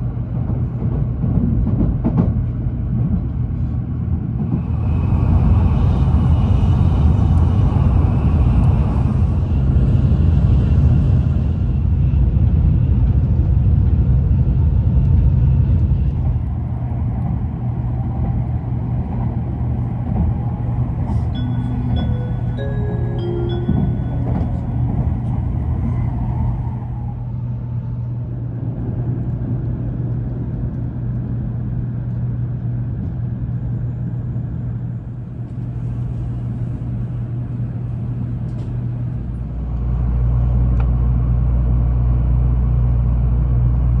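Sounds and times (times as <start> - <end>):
train running rumble: 0.0 - 44.0.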